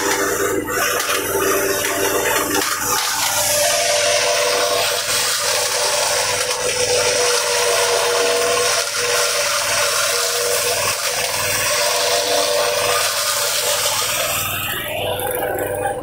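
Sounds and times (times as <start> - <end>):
forage chopper running under load: 0.0 - 16.0.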